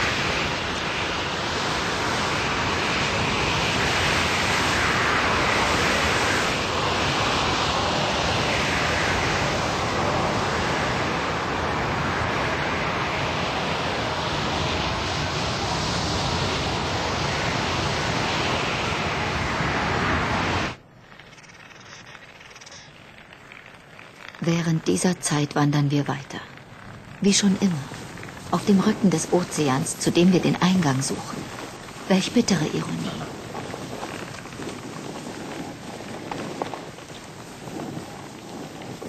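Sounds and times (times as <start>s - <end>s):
blizzard wind rushing: 0.0s - 39.0s.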